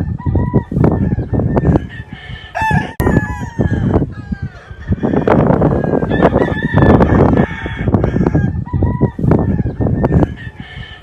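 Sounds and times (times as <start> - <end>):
rooster crowing: 0.0 - 11.0.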